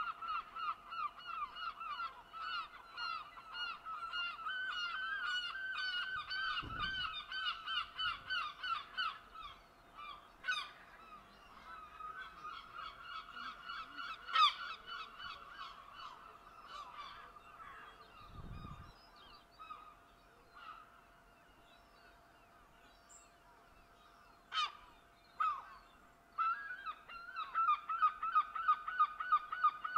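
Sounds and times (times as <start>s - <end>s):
flock of birds calling: 0.0s - 21.1s, 23.1s - 29.9s.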